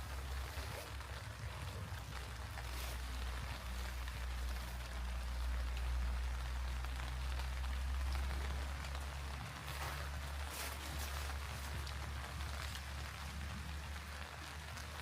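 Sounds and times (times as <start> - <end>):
low rumble: 0.0 - 15.0
rain falling: 0.0 - 15.0.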